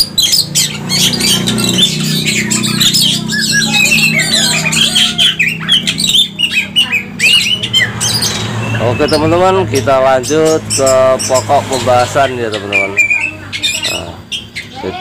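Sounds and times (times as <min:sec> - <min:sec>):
birds singing and calling: 0:00.0 - 0:15.0.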